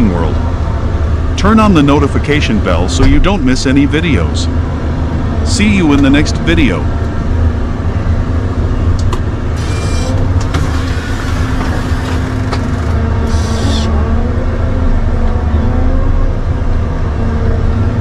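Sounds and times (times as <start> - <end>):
large engine rumbling: 0.0 - 18.0.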